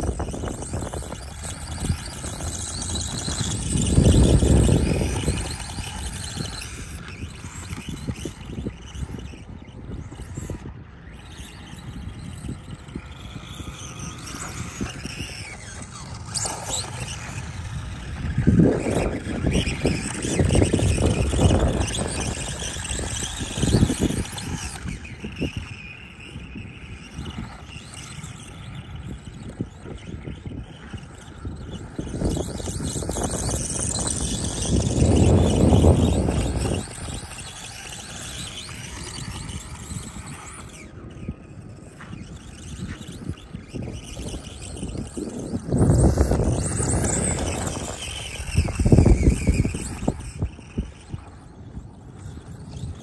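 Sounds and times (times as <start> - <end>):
electric motor whining: 0.0 - 53.0.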